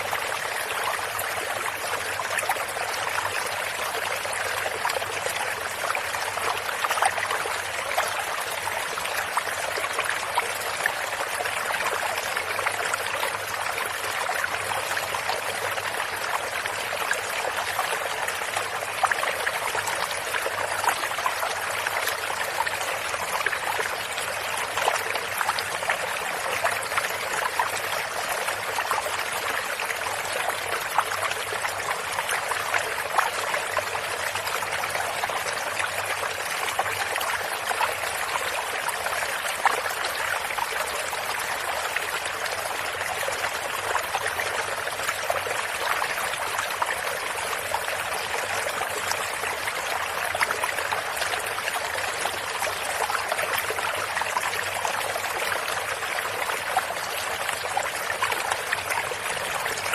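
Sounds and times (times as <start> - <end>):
stream of running water: 0.0 - 59.9.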